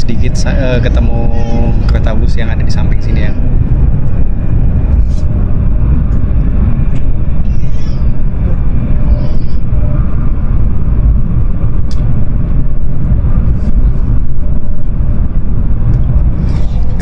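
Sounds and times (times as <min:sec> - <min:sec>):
train rumble inside cabin: 0:00.0 - 0:17.0.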